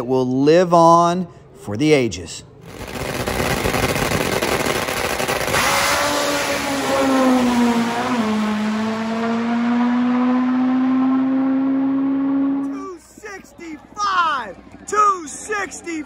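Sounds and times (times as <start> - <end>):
drag motorcycle engine roaring: 2.6 - 16.0.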